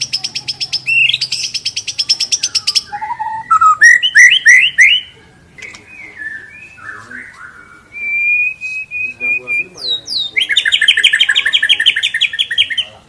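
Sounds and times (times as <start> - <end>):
bird singing trills and whistles: 0.0 - 13.0.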